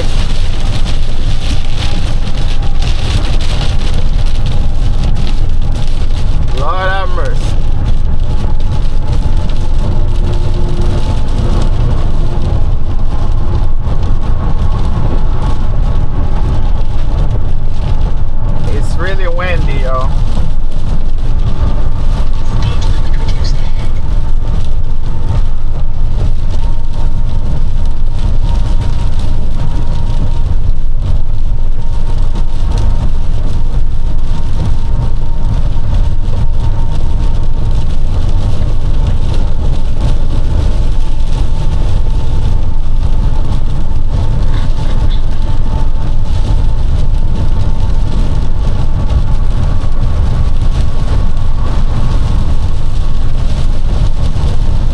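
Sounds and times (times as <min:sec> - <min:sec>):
truck rumble from inside cab: 0:00.0 - 0:54.9.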